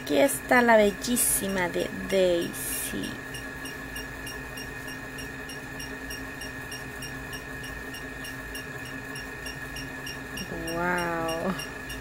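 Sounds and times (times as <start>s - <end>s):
background hum and hiss: 0.0s - 12.0s
constant high whine: 0.0s - 12.0s.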